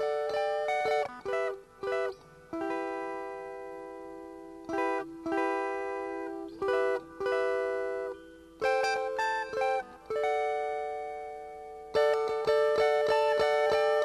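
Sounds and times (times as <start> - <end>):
plucked guitar: 0.0 - 14.0.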